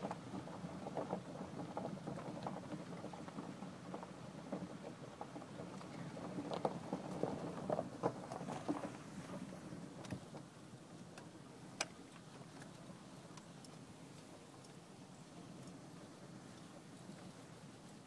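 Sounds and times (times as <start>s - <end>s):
vehicle rolling over bumpy ground: 0.0s - 17.6s.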